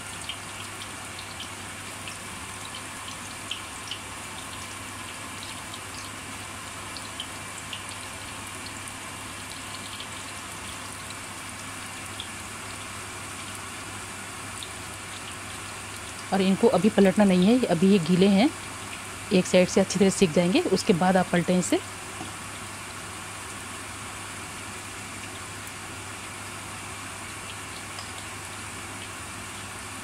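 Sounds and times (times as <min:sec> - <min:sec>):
food deep-frying in oil: 0:00.0 - 0:30.0.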